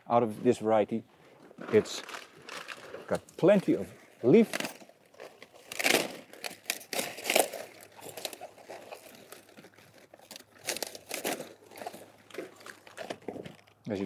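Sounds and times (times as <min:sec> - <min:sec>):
cabbage leaves crinkling and tearing: 0:01.6 - 0:14.0.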